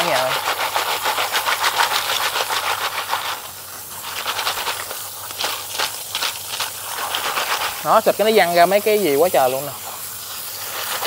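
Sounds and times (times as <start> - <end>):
water spraying from hose nozzle: 0.0 - 11.0.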